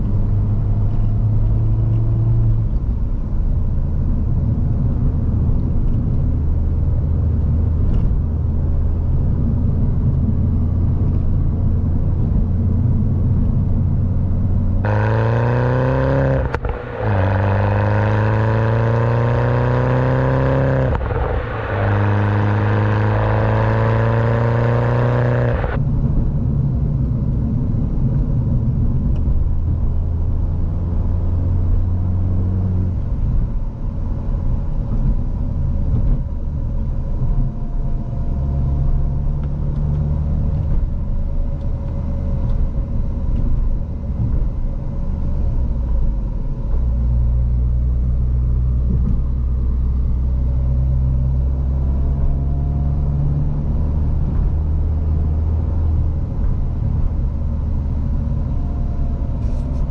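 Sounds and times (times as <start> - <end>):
car engine accelerating: 8.8 - 26.4, 28.2 - 59.9.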